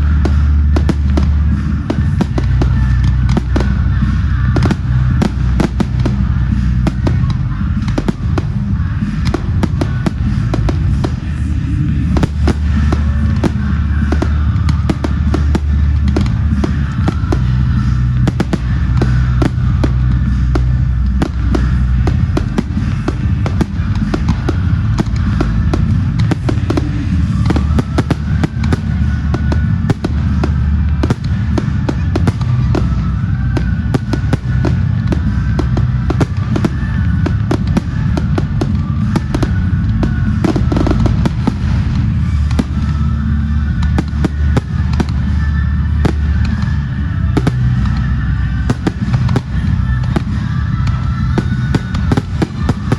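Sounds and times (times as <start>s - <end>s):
fireworks bangs and crackles: 0.0s - 52.9s
music playing: 0.0s - 52.9s.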